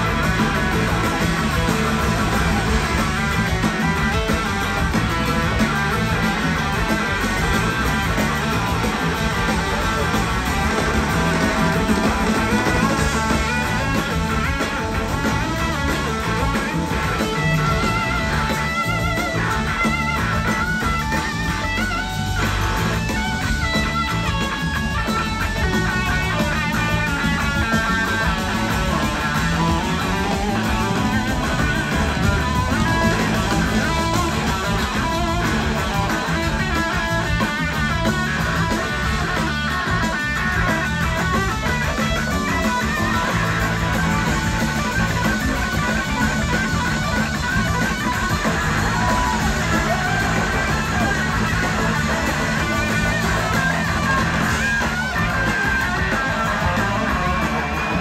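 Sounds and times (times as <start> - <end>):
electric guitar: 0.0 - 58.0
live rock band playing: 0.0 - 58.0.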